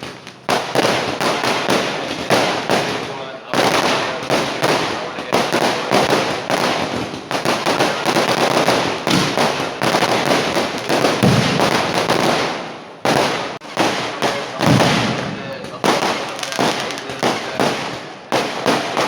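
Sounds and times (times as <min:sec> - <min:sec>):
firework bangs and crackle: 0:00.0 - 0:19.0.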